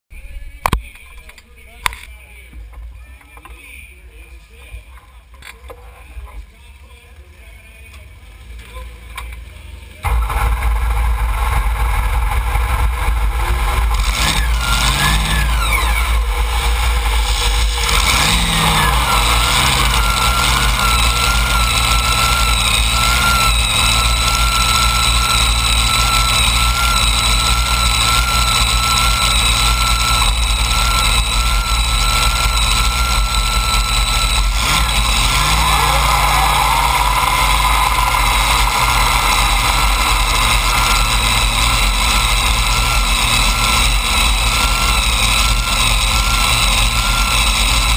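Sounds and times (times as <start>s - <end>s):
engines idling with revs: 0.2s - 47.9s.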